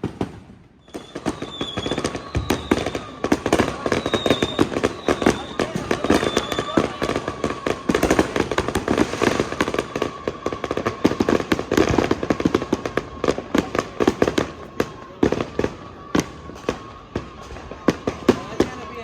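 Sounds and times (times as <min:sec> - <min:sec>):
fireworks cracking and popping: 0:00.0 - 0:19.0.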